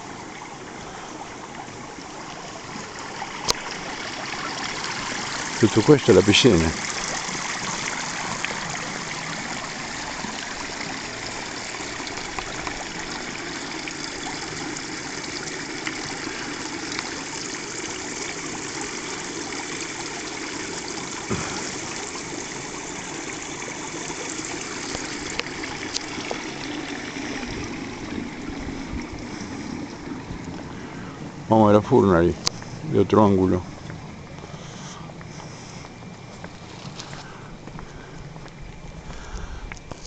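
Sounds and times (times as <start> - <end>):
running water trickling: 0.0 - 40.0.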